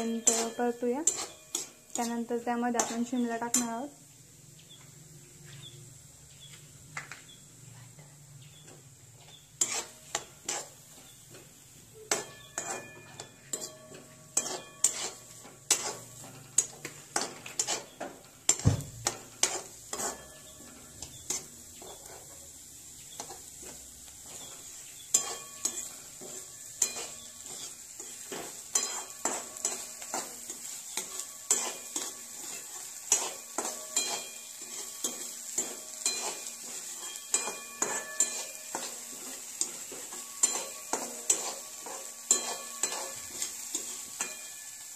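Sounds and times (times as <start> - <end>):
spatula scraping metal pan: 0.0 - 3.7, 9.2 - 11.2, 12.0 - 44.8
onion sizzling in oil: 0.0 - 44.9.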